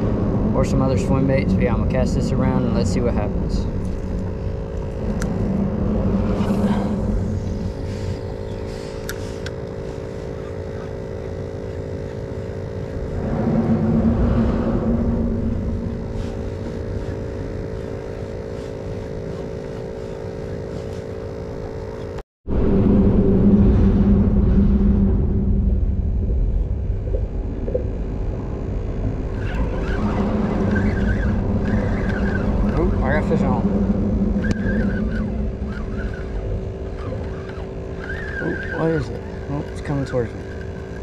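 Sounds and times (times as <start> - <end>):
traffic rumble and hum: 0.0 - 41.0.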